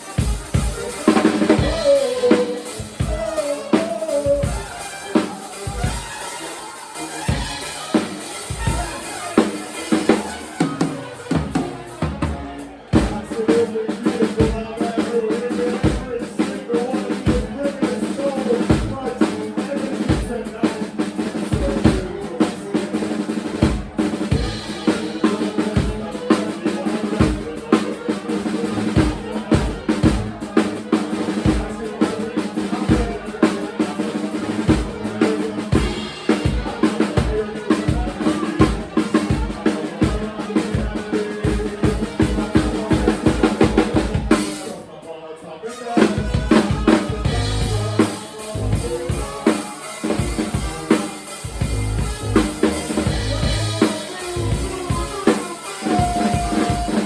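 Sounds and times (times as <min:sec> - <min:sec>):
drum kit beat: 0:00.0 - 0:45.1, 0:46.0 - 0:57.0
live band playing: 0:00.0 - 0:45.1, 0:45.8 - 0:57.0.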